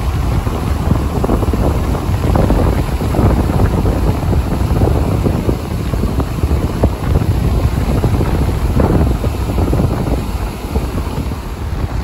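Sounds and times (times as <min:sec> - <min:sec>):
water rushing over a weir: 0:00.0 - 0:12.0.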